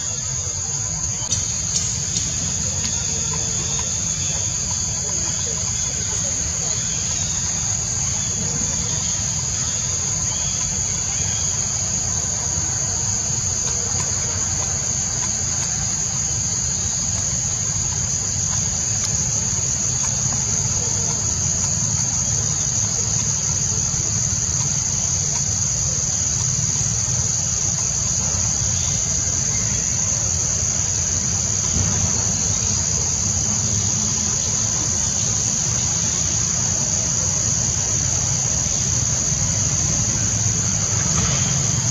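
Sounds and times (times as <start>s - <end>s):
insect chorus: 0.0s - 41.9s.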